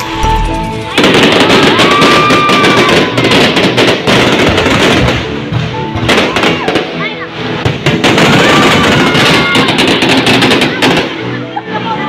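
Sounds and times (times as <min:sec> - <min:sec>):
fireworks crackling and banging: 0:00.0 - 0:11.4
background music: 0:00.0 - 0:12.0.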